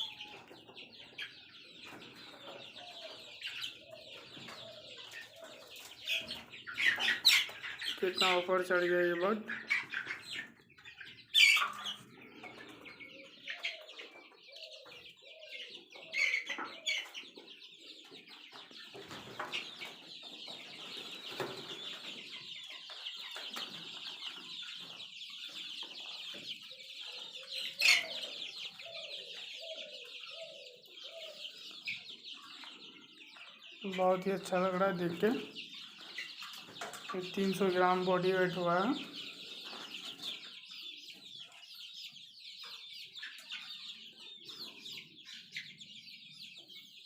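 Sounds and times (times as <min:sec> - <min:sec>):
chickens clucking: 0:00.0 - 0:47.0
chicks peeping: 0:00.0 - 0:47.0.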